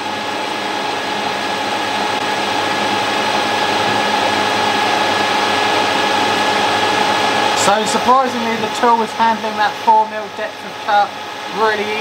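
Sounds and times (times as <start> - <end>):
metal lathe whirring: 0.0 - 12.0.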